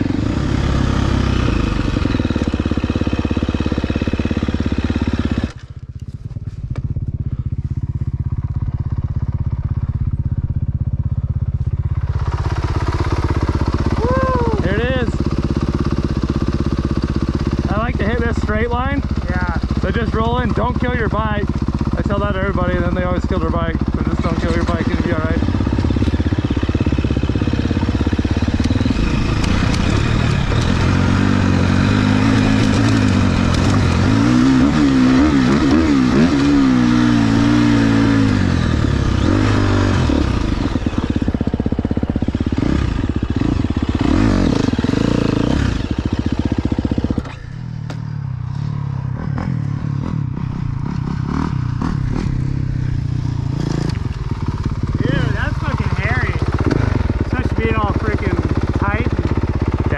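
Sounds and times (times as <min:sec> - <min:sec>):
dirt bike engine revving: 0:00.0 - 0:59.9
clatter and scraping on trail: 0:00.4 - 0:08.4, 0:11.5 - 0:12.7, 0:17.7 - 0:37.8, 0:38.4 - 0:59.9.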